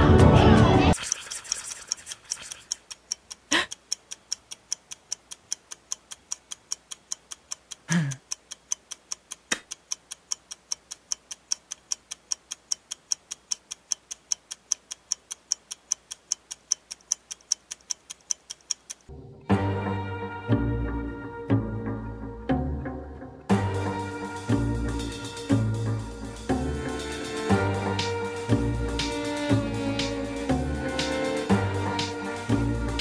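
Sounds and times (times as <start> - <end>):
clock ticking: 0.9 - 19.1, 23.5 - 33.0.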